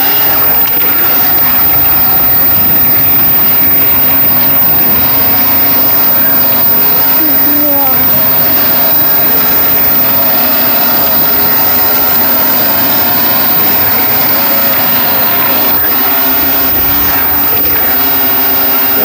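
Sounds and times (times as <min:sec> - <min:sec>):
motor running: 0:00.0 - 0:19.0.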